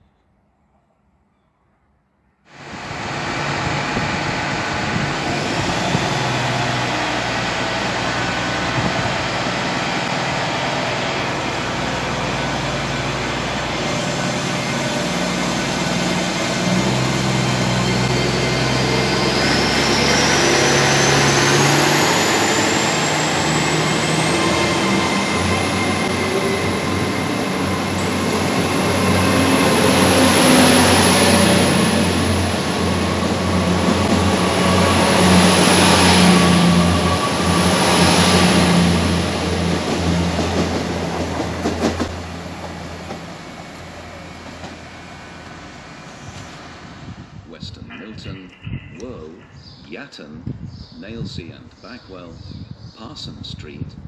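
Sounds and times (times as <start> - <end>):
diesel locomotive engine drone: 2.5 - 50.0.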